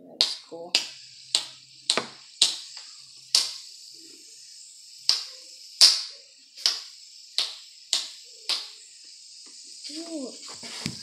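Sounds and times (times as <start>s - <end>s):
fidget spinner clicks and whir: 0.0s - 11.0s.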